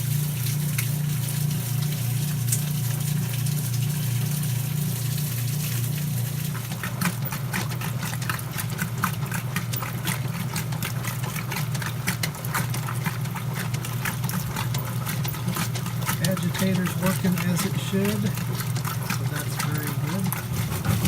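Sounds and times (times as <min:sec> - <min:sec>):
washing machine motor hum: 0:00.0 - 0:21.0
water splashing and sloshing: 0:00.0 - 0:21.0.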